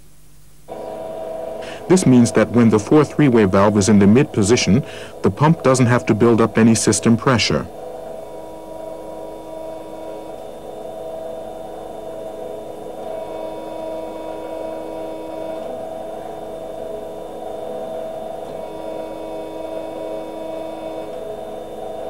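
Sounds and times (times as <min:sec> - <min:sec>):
hydraulic pump whining: 0:00.7 - 0:22.0.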